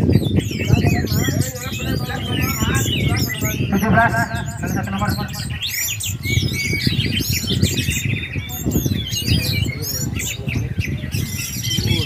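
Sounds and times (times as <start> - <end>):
thrushes singing: 0.0 - 12.0.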